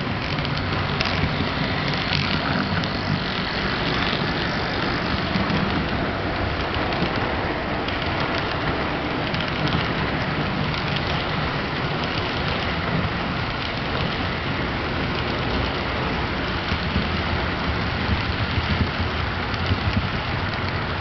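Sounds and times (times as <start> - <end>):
model train cars rolling: 0.0 - 21.0
wheels clicking on rails: 0.0 - 21.0.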